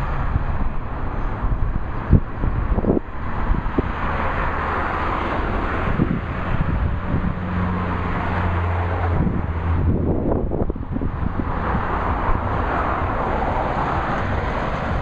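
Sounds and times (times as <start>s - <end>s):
road traffic: 0.0s - 15.0s
vehicle engine hum: 0.0s - 15.0s
wind rumbling on microphone: 0.0s - 15.0s.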